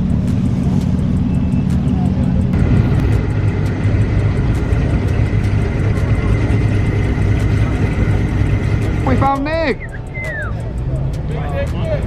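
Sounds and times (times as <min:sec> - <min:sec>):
car engine rumbling: 0:00.0 - 0:12.0
crowd chatter: 0:01.5 - 0:12.0.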